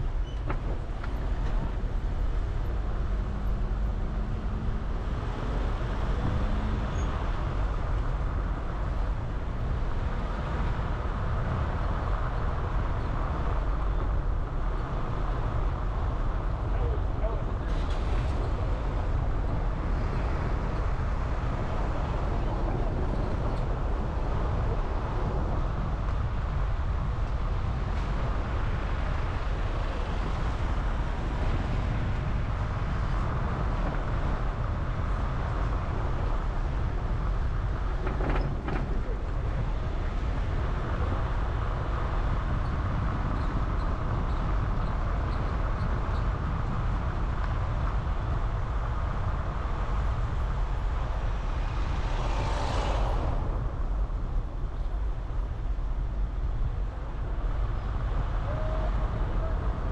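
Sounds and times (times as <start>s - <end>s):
car engine and road rumble: 0.0s - 59.9s
wind noise: 0.0s - 59.9s.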